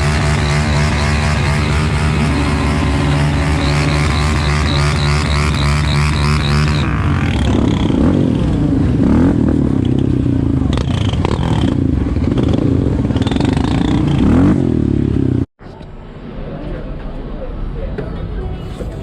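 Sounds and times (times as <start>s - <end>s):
quad bike engine revving: 0.0s - 15.5s.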